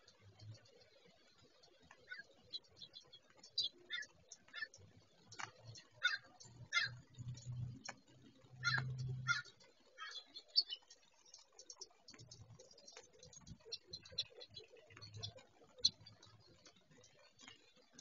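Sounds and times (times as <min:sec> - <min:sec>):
birds pecking ticks and clicks: 0:00.0 - 0:18.0.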